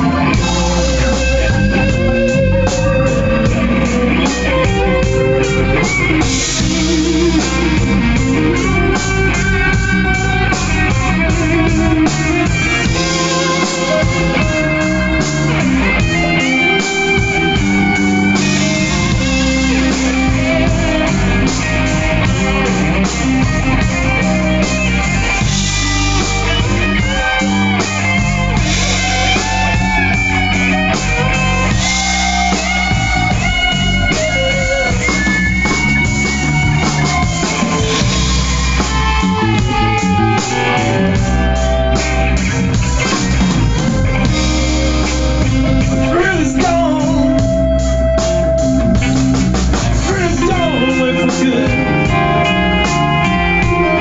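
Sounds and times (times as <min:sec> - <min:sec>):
electric guitars playing blues: 0:00.0 - 0:54.0.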